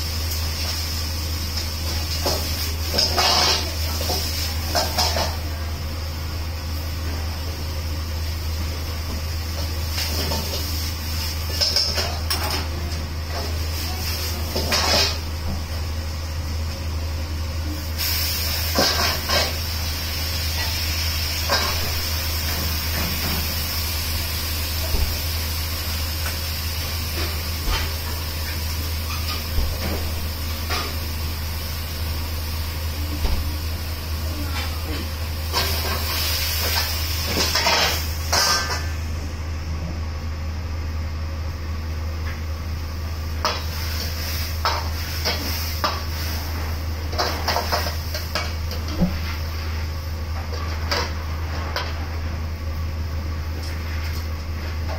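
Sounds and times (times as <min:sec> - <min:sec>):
gas burner and ventilation hum: 0:00.0 - 0:54.9.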